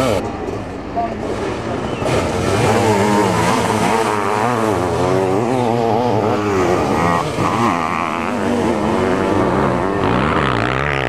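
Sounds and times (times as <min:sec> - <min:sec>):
motorcycle engines racing past: 0:00.0 - 0:11.0.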